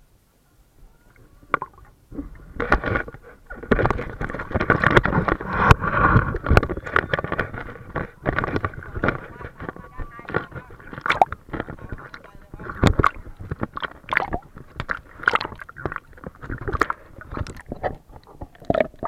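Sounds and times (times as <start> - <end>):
water splashing and sloshing: 1.1 - 19.0.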